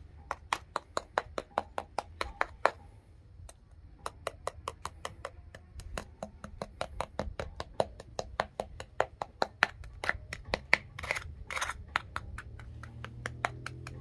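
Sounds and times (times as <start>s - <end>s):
knife tapping crispy roasted skin: 0.3s - 2.8s, 4.0s - 14.0s.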